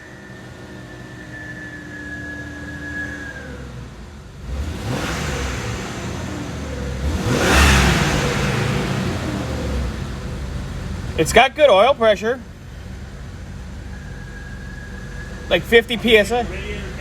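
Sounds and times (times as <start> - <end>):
car engine idling rough: 0.0 - 17.0
engine revving: 0.0 - 17.0.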